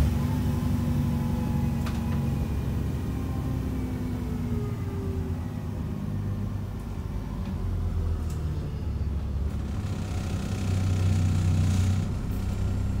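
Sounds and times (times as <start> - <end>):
bus diesel engine hum: 0.0 - 13.0.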